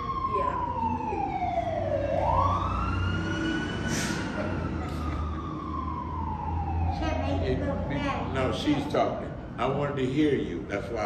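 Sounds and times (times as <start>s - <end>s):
emergency vehicle siren wailing: 0.0s - 11.0s.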